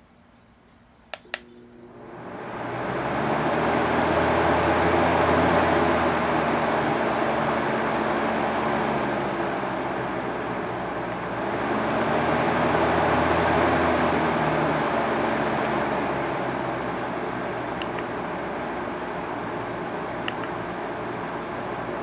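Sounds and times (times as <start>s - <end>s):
fan blowing air: 0.7s - 22.0s
low motor hum: 1.2s - 22.0s.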